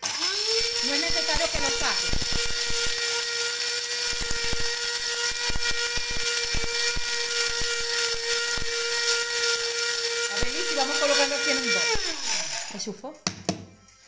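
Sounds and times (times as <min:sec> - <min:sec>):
spice grinder motor whine: 0:00.0 - 0:13.0.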